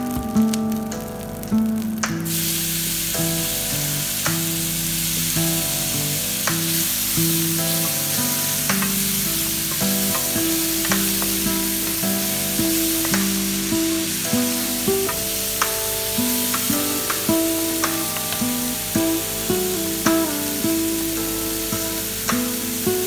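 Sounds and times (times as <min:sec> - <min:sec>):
tomatoes sizzling in hot oil: 0:00.0 - 0:23.0.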